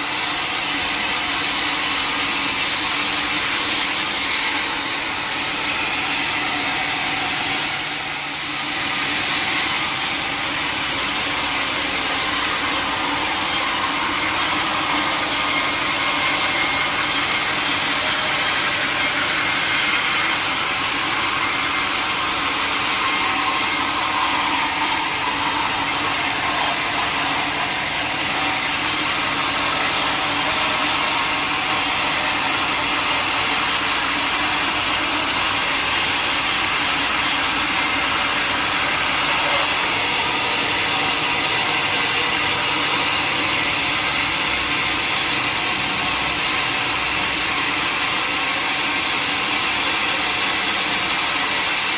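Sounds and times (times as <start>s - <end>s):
sawmill blade cutting log: 0.0s - 51.9s.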